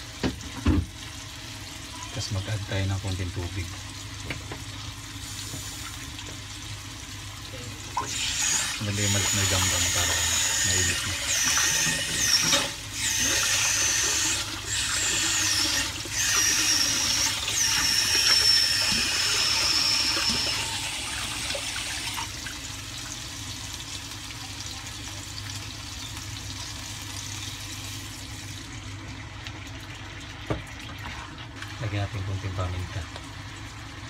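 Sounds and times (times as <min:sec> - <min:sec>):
meat sizzling in frying pan: 0:00.0 - 0:30.4.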